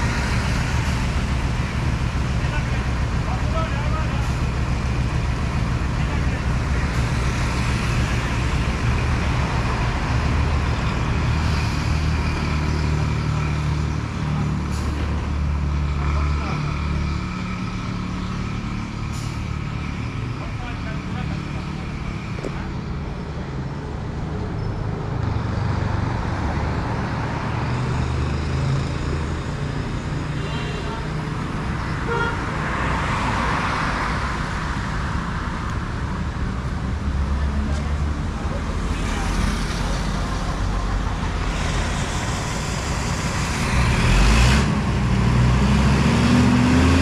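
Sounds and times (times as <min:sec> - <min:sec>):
road traffic: 0:00.0 - 0:47.0
truck diesel engine droning: 0:00.0 - 0:47.0.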